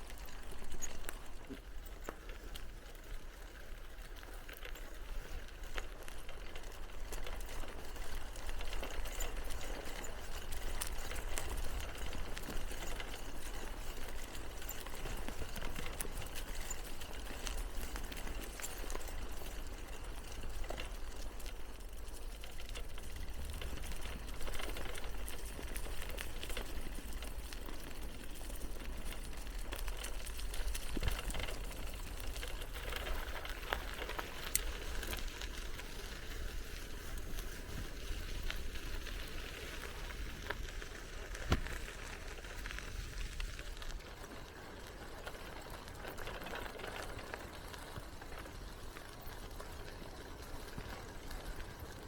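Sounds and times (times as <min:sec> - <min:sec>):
bicycle clicks and rattles: 0:00.0 - 0:52.0
bicycle tyre and riding noise: 0:00.0 - 0:52.0.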